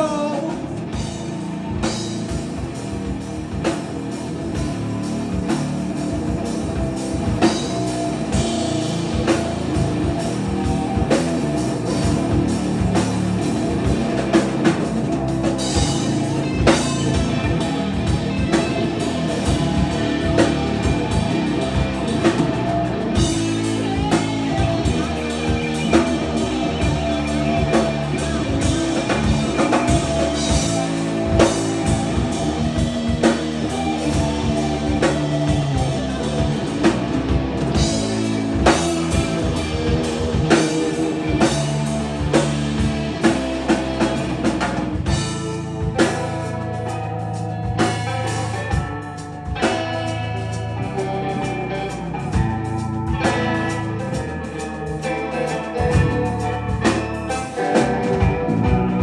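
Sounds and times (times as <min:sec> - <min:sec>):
bass guitar: 0:00.0 - 0:59.0
distorted electric guitar: 0:00.0 - 0:59.0
drum kit with cymbal hits: 0:00.0 - 0:59.0.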